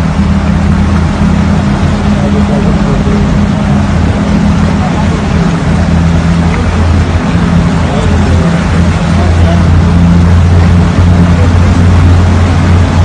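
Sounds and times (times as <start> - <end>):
floodwater rushing: 0.0 - 13.0
low hum: 0.0 - 13.0.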